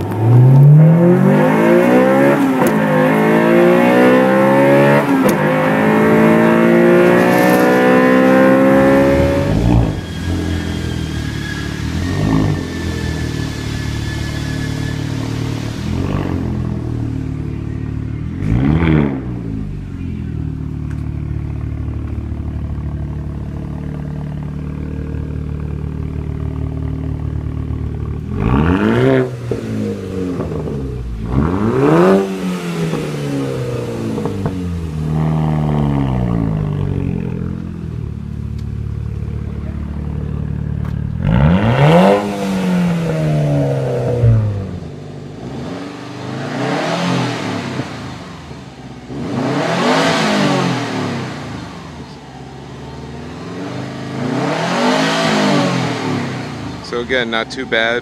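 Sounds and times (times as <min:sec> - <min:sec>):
car engine idling and revving: 0:00.0 - 0:58.0
second car engine revving: 0:00.0 - 0:58.0.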